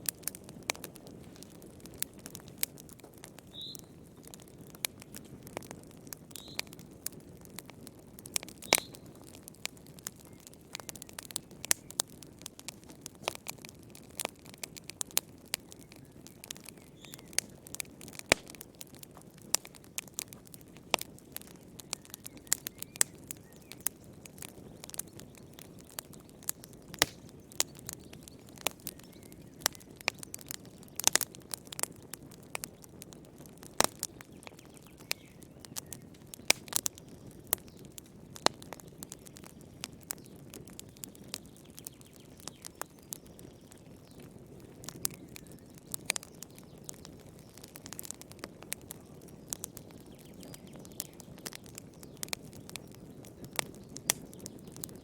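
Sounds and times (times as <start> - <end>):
low rush of flames: 0.0 - 55.0
wood fire crackling and popping: 0.0 - 55.0.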